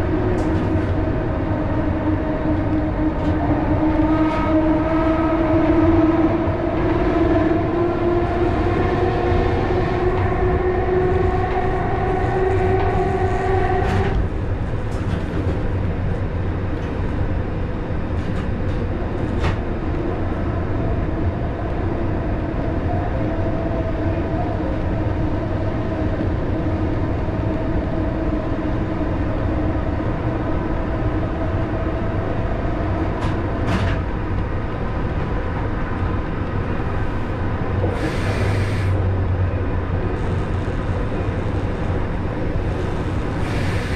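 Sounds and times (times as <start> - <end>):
train low rumble: 0.0 - 43.9.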